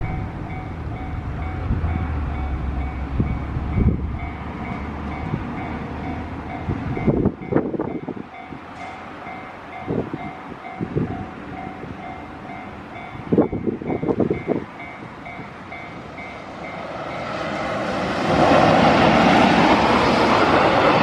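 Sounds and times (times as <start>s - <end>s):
crossing warning bell clanging: 0.0s - 18.1s
freight train rumbling: 0.0s - 21.0s.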